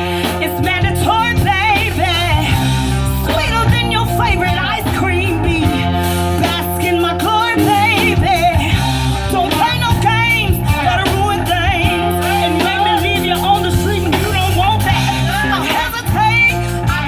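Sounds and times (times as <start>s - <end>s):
live band playing: 0.0s - 17.0s
person singing with vibrato: 0.0s - 17.0s.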